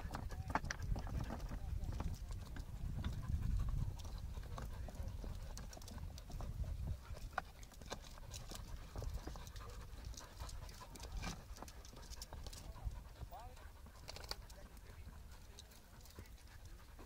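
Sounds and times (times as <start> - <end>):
dog paws on loose rocks: 0.0 - 17.0
dogs sniffing: 0.8 - 17.0.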